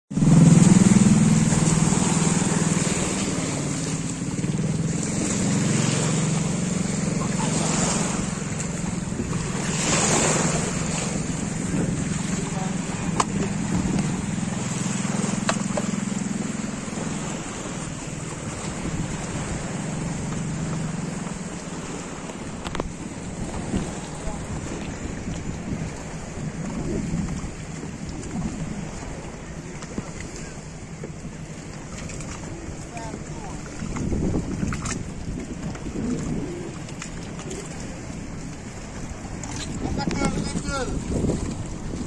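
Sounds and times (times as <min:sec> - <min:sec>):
sea water washing and churning: 0:00.0 - 0:42.0
wind on microphone: 0:00.1 - 0:42.0.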